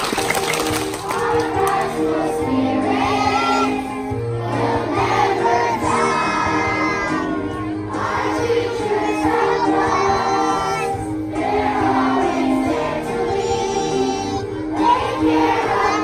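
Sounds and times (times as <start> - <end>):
children's choir singing: 0.1 - 16.0.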